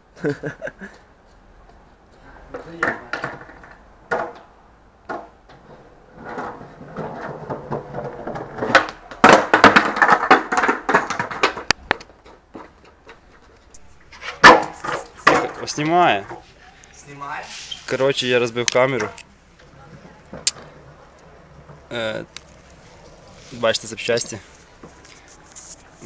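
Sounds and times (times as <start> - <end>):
skateboard rolling on concrete: 0.2 - 26.0
knocks and scuffling: 5.1 - 26.0.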